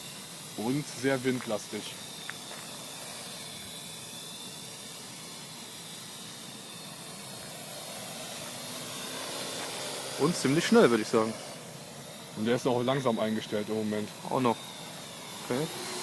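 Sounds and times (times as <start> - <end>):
quadcopter rotors whirring: 0.0 - 16.0.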